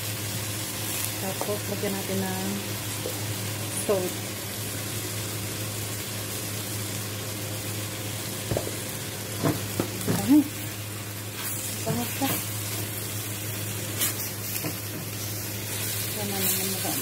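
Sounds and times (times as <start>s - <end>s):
chicken sizzling in a pot: 0.0s - 17.0s.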